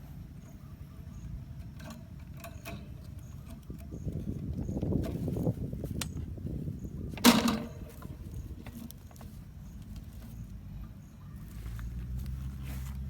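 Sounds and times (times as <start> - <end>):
rustling and scraping: 1.6 - 13.0.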